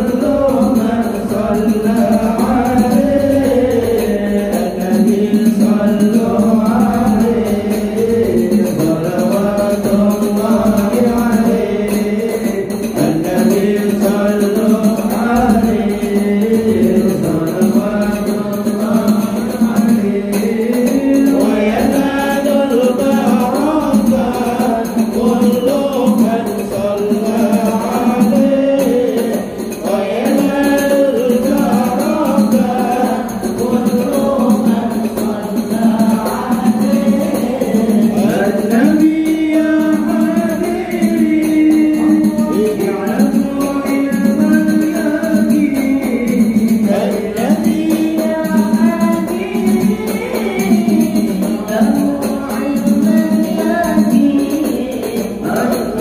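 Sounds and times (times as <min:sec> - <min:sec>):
tambourine: 0:00.0 - 0:56.0
voices singing devotional song: 0:00.0 - 0:56.0.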